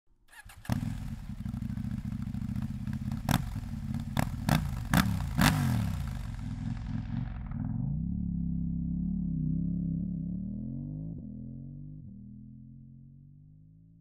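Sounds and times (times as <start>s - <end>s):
motorcycle engine idling and revving: 0.3s - 14.0s.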